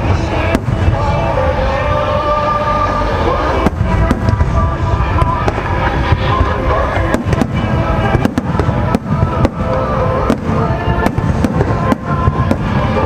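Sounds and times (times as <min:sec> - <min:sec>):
fireworks bangs: 0:00.0 - 0:13.0
low rumble of fireworks: 0:00.0 - 0:13.0
music playing: 0:00.0 - 0:13.0.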